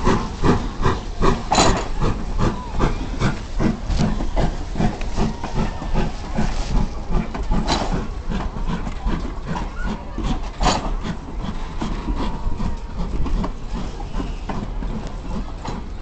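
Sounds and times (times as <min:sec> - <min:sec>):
steam hissing: 0:00.0 - 0:16.0
steam train chugging: 0:00.0 - 0:16.0.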